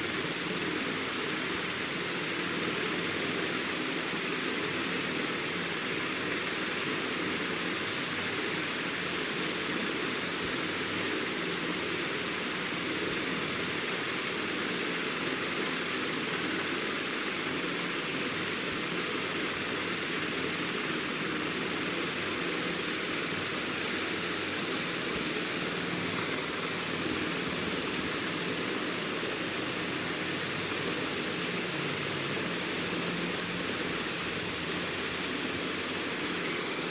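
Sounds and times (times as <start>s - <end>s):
steady rushing noise: 0.0s - 36.9s.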